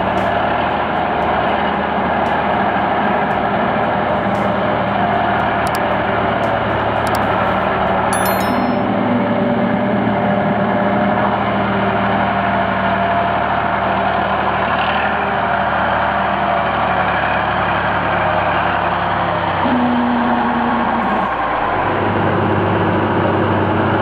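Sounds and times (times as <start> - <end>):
truck diesel engine droning: 0.0 - 8.1, 9.0 - 24.0.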